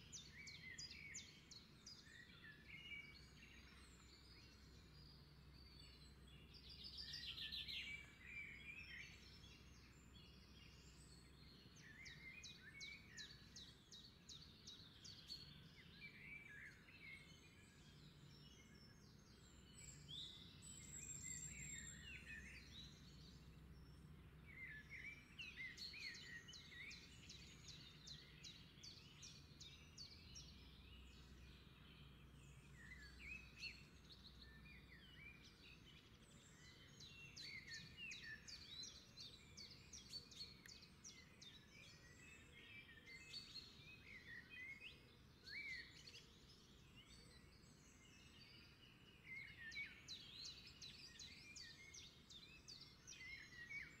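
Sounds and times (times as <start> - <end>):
faint birdsong: 0.0 - 54.0.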